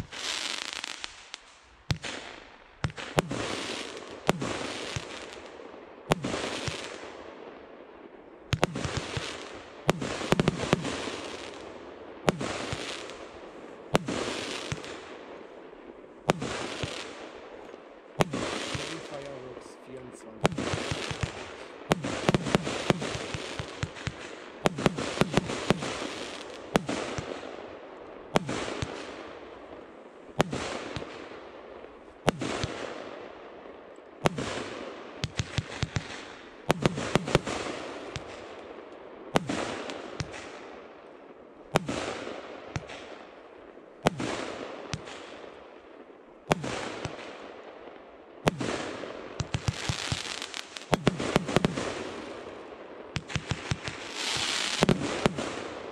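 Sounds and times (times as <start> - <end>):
crackling hiss of bursting stars: 0.0 - 55.9.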